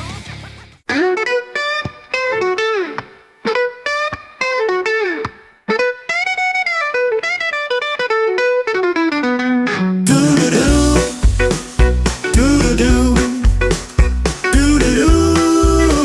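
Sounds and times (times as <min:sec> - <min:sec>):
electric guitar lead melody: 0:00.0 - 0:16.0.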